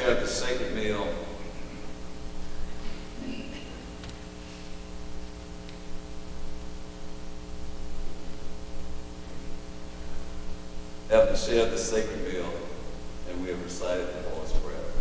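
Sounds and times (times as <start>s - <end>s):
electrical mains hum: 0.0s - 15.0s
static hiss: 0.0s - 15.0s.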